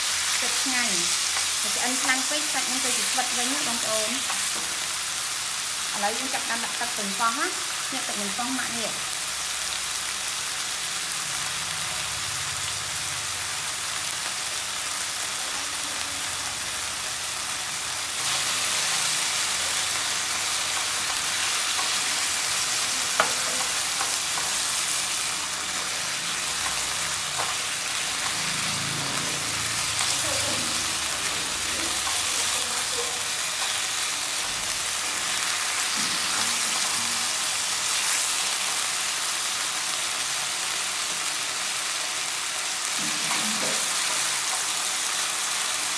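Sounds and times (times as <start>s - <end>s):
meat sizzling in a wok: 0.0s - 45.9s.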